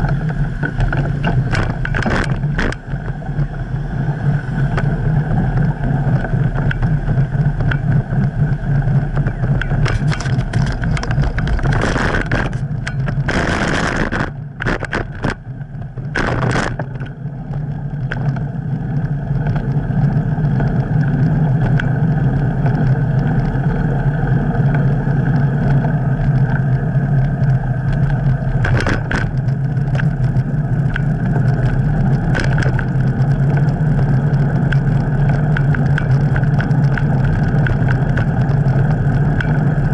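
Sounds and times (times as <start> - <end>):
bicycle rumbling over pavement: 0.0 - 39.9
wind on microphone: 0.0 - 39.9.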